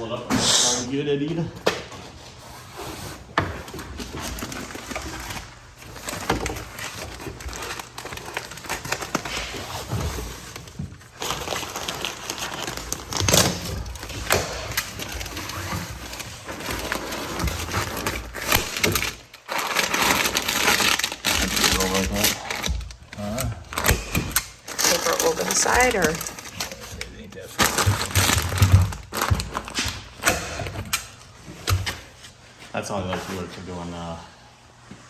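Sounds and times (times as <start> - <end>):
insulation batts rustling and crackling: 1.2 - 34.1.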